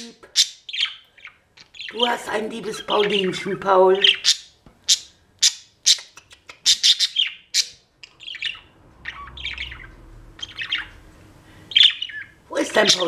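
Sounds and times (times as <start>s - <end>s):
budgerigars chirping: 0.3s - 13.0s
budgerigars chattering: 0.4s - 11.0s, 11.7s - 13.0s.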